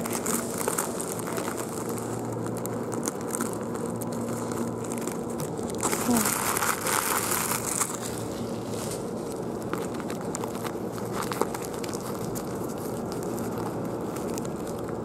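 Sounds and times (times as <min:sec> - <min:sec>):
plastic wrapper crinkling: 0:00.0 - 0:15.0
soft crackles: 0:00.0 - 0:15.0.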